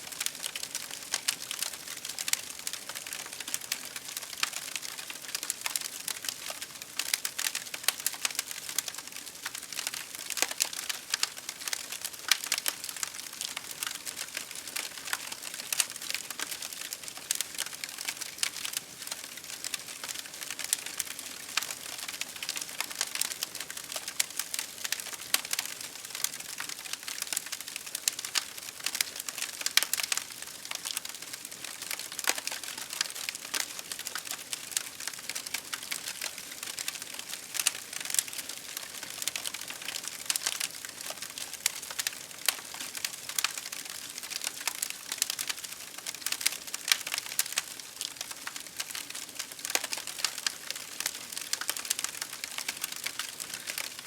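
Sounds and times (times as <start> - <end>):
campfire crackling and popping: 0.1 - 54.0.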